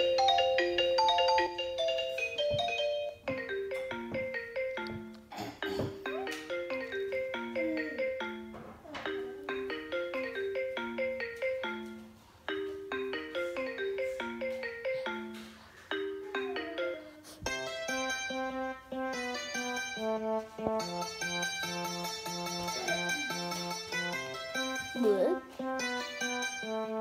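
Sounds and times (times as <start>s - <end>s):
ringtone melody of quick notes: 0.0s - 5.2s, 6.1s - 27.0s.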